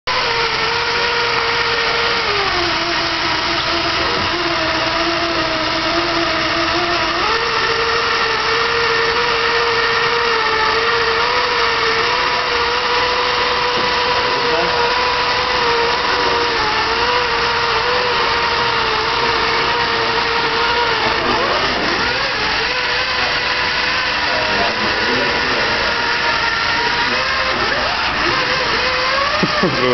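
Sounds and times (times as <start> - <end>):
small electric motors whining: 0.0 - 29.9.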